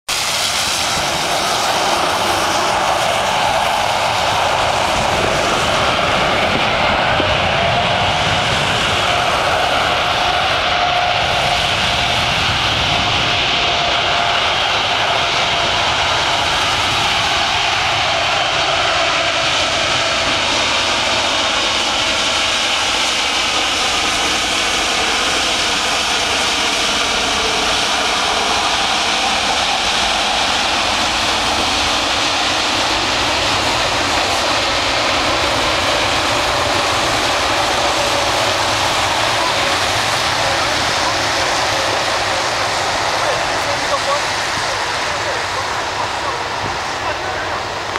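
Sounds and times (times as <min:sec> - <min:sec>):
jet engines running: 0:00.0 - 0:47.9
faint jet engine whine: 0:00.1 - 0:47.9.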